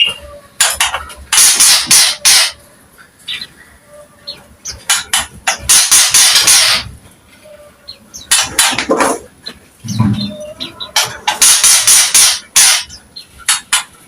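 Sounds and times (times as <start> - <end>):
bird harsh chatter: 0.0 - 14.0.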